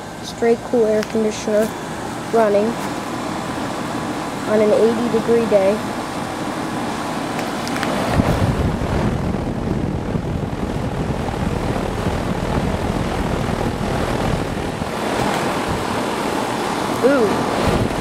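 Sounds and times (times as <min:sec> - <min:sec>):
air conditioner fan rushing: 0:00.0 - 0:18.0.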